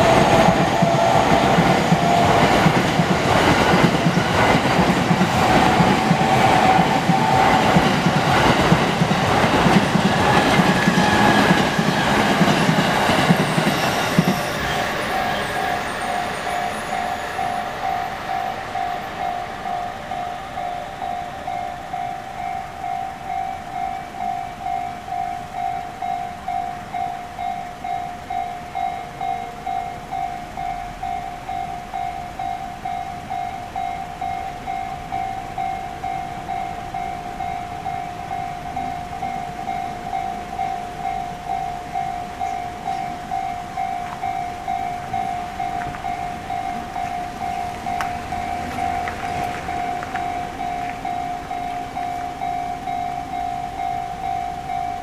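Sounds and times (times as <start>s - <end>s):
level crossing warning bells ringing: 0.0s - 55.0s
train passing: 0.0s - 55.0s.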